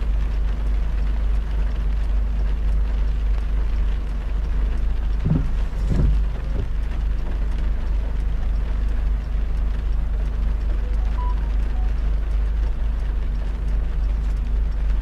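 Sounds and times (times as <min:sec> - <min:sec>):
low road rumble: 0:00.0 - 0:15.0
raindrop ticks: 0:00.0 - 0:15.0.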